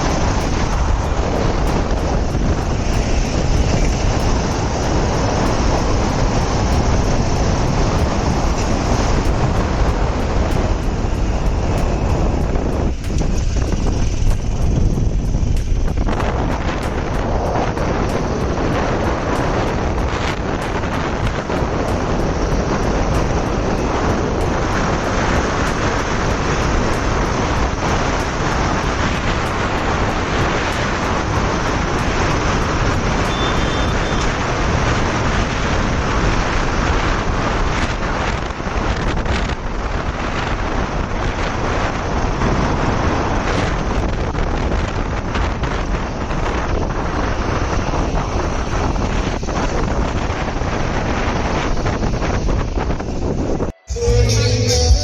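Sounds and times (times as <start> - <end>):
vehicle road noise: 0.0 - 55.0
wind on microphone: 0.0 - 55.0.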